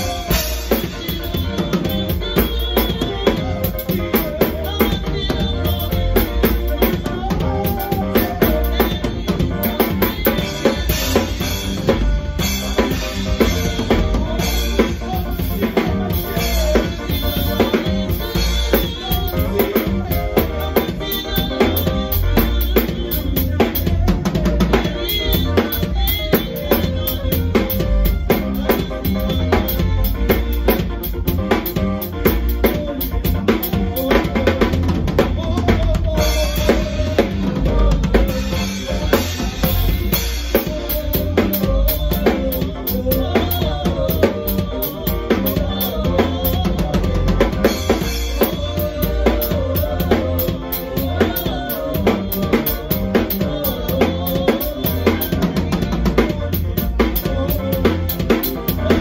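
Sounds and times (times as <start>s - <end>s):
bass drum: 0.0s - 59.0s.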